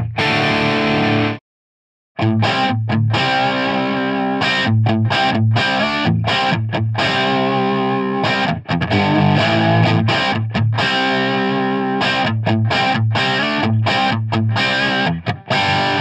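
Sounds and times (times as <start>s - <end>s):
distorted electric guitar riff: 0.0s - 1.4s, 2.2s - 16.0s.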